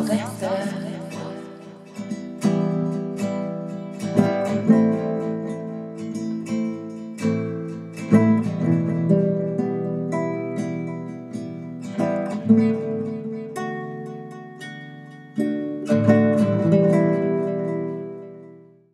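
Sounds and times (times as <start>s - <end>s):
acoustic guitar strumming chords: 0.0s - 18.8s.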